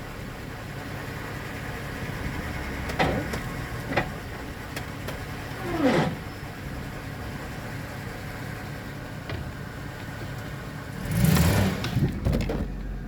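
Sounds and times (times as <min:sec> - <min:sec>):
truck drivetrain running: 0:00.0 - 0:13.0.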